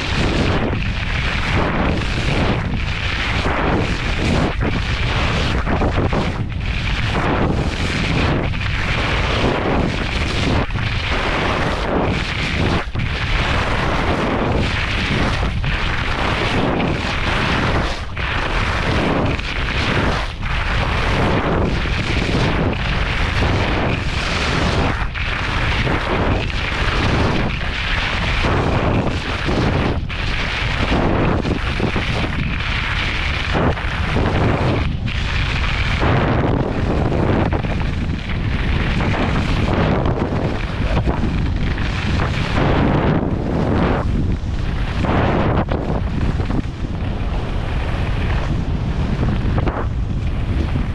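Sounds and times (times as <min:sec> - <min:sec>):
skis scraping on snow: 0:00.0 - 0:50.9
wind buffeting microphone: 0:00.0 - 0:50.9.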